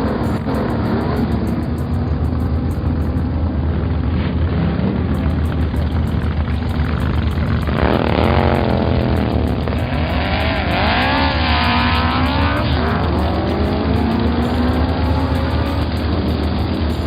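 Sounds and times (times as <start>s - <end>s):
cartoon truck engine revving: 0.0s - 3.3s, 5.1s - 17.0s.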